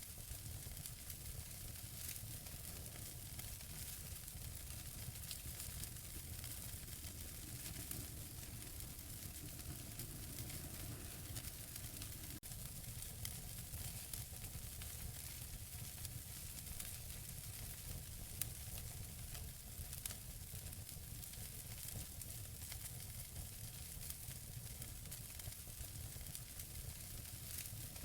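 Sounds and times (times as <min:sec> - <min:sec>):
wood fire hissing and crackling: 0:00.0 - 0:28.0.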